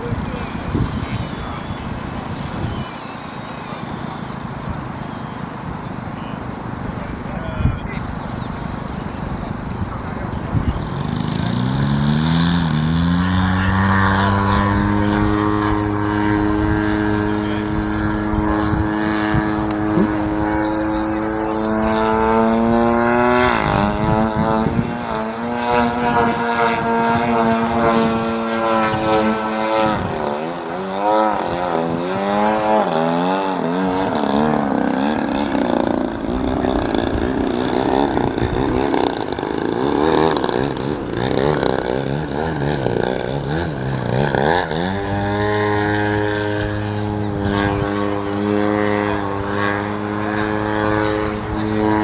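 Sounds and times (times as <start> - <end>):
model plane motor and propeller: 0.0 - 52.0.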